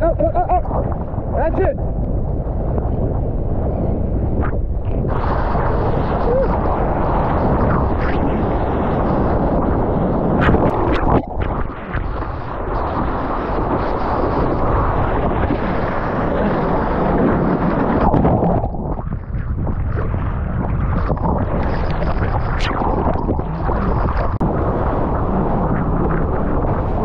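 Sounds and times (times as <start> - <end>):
wind buffeting microphone: 0.0 - 27.0
surf rushing and splashing: 5.1 - 27.0.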